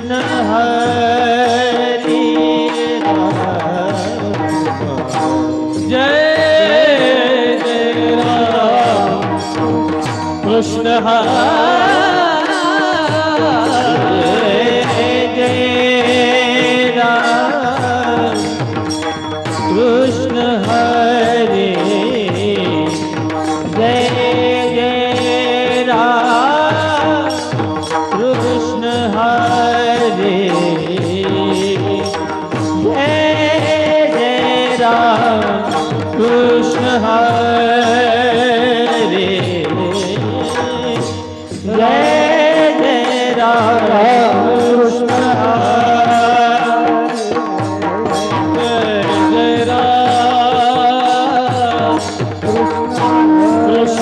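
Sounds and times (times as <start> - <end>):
hand drum percussion: 0.0 - 54.0
person singing: 0.0 - 54.0.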